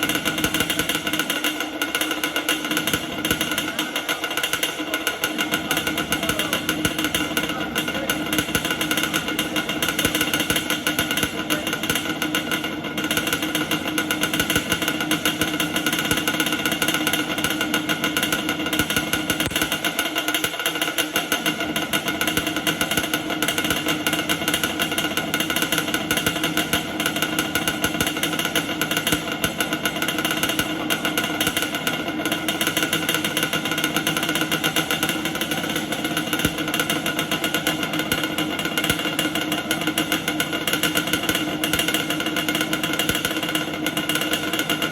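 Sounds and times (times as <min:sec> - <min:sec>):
two-stroke engine running: 0:00.0 - 0:44.9.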